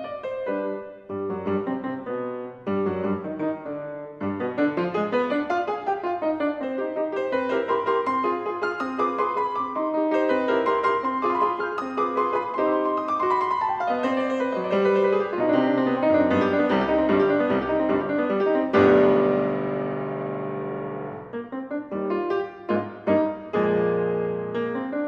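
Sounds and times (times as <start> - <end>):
grand piano playing: 0.0 - 25.0.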